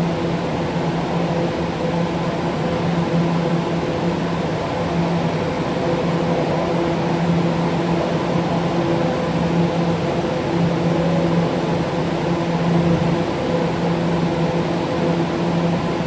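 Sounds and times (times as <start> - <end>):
subway train humming and rumbling: 0.0 - 16.0.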